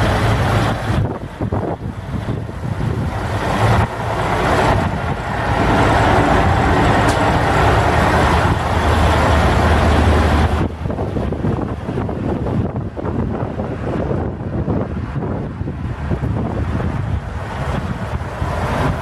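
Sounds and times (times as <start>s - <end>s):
diesel truck engine idling: 0.0s - 19.0s
loud rushing noise: 0.0s - 19.0s.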